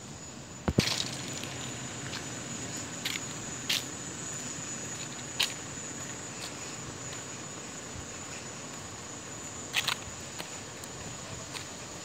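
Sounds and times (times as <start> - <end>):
footsteps crunching on dry ground: 0.6 - 12.0.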